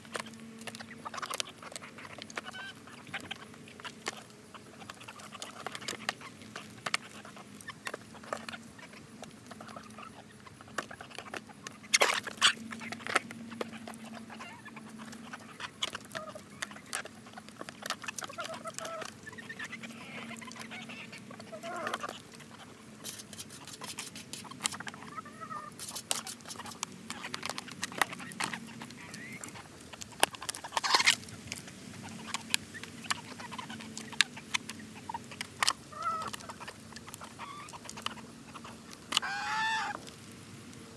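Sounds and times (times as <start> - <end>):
beaks tapping on foil: 0.0 - 40.3
chickens clucking: 0.0 - 40.9.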